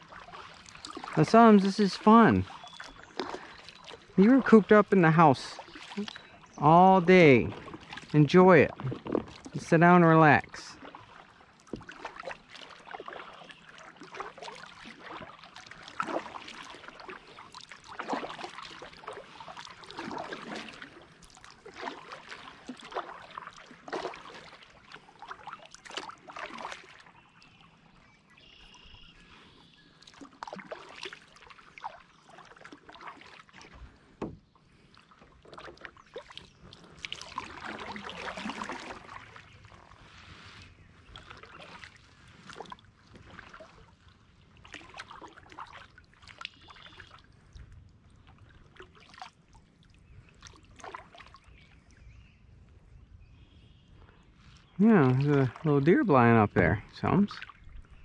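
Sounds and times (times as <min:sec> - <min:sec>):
paddle splashing in water: 0:00.0 - 0:52.8, 0:53.5 - 0:56.4, 0:57.0 - 0:58.0.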